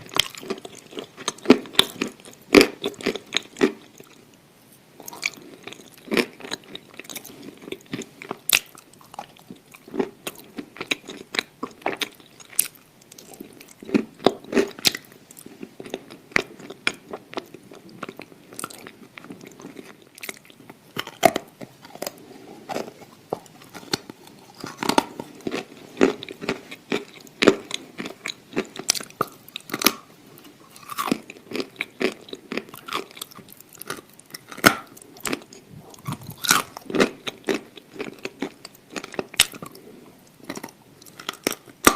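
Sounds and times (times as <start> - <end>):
person chewing crunchy food: 0.0 - 4.4, 5.0 - 41.9.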